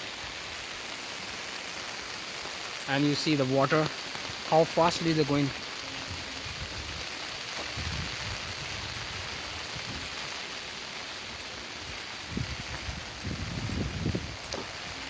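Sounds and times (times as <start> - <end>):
falling rain hiss: 0.0 - 15.0
mountain stream rushing: 0.0 - 15.0.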